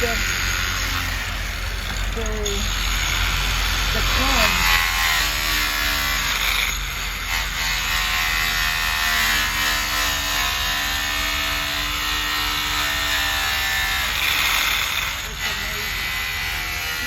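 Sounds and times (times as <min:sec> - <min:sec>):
polishing machine motor whine: 0:00.0 - 0:17.0.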